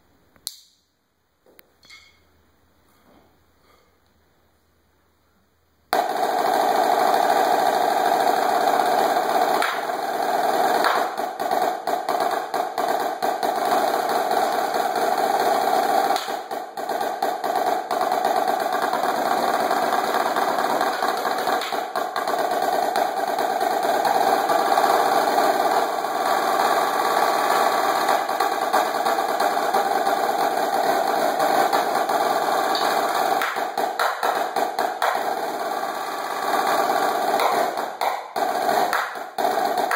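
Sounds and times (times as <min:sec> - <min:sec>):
snare drum rolls: 0:06.0 - 0:39.9.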